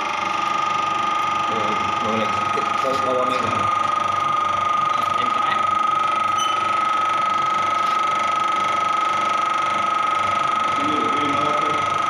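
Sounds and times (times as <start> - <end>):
hydraulic pump whining: 0.0 - 12.0.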